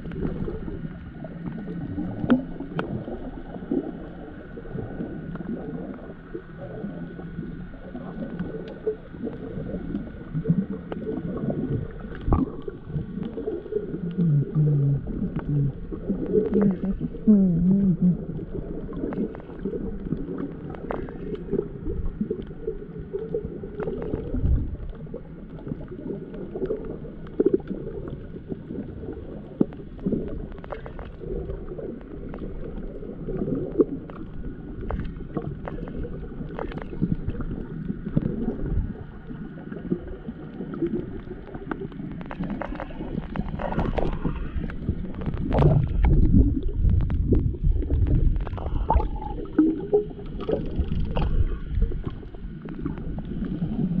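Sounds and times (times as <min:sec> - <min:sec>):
underwater sloshing and gurgling: 0:00.0 - 0:54.0.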